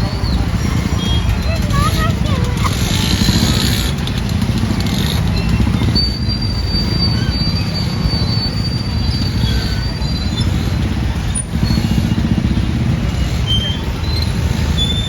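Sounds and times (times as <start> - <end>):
train wheels squealing: 0.0 - 15.0.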